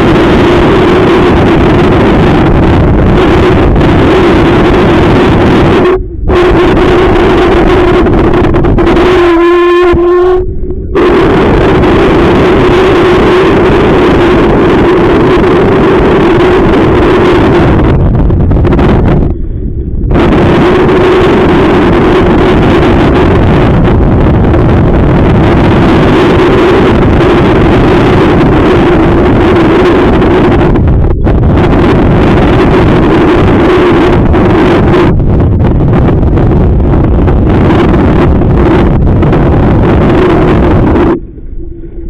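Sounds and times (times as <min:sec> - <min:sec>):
steady low hum: 0:00.0 - 0:42.0
wind buffeting microphone: 0:00.0 - 0:42.0.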